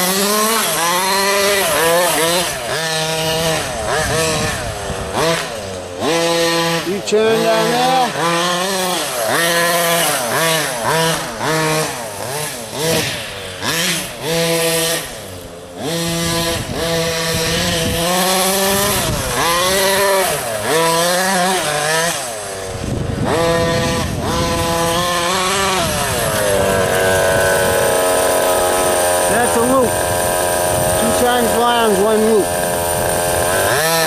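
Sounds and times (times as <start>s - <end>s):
radio-controlled car motor revving: 0.0s - 34.0s.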